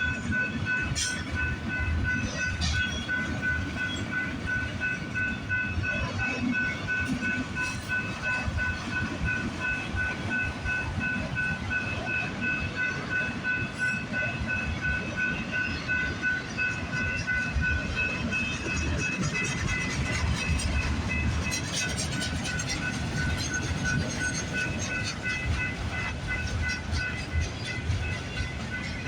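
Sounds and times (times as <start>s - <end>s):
train wheels rumbling over rails: 0.0s - 29.0s.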